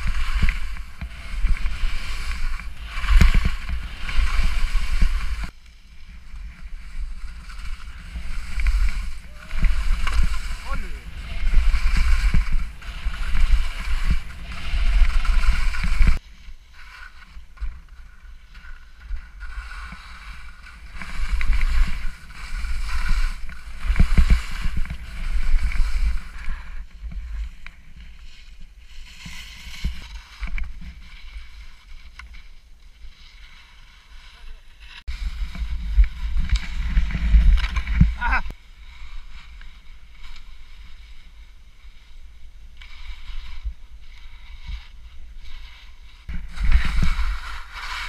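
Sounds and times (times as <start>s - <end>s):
low wind rumble on microphone: 0.0s - 16.2s, 18.8s - 28.8s, 34.7s - 48.0s
skis scraping over snow: 0.0s - 48.0s.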